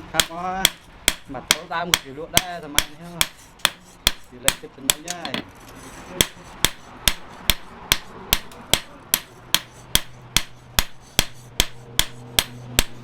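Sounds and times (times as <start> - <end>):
hammer striking steel: 0.0 - 5.5, 6.2 - 13.0.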